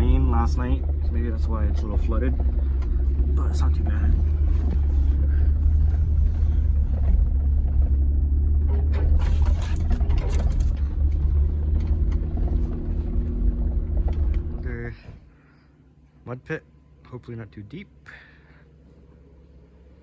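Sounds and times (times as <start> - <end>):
car engine running slowly: 0.0 - 20.0.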